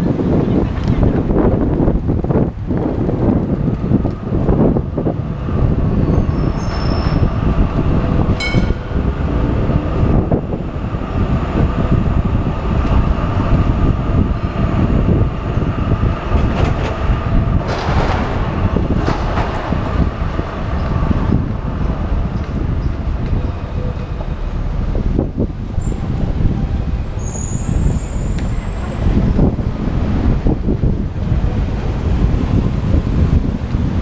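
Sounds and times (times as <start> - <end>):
city traffic and trams: 0.0 - 34.0
wind buffeting microphone: 0.0 - 34.0.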